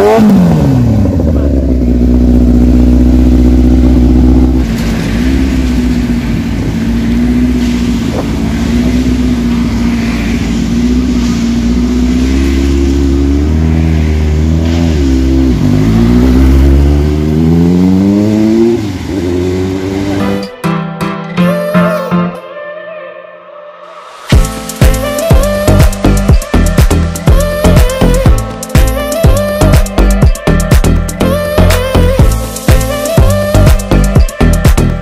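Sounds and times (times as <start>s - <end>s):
motorcycle engine idling and accelerating: 0.0s - 20.6s, 24.3s - 35.0s
street traffic hiss: 1.8s - 20.4s, 23.8s - 35.0s.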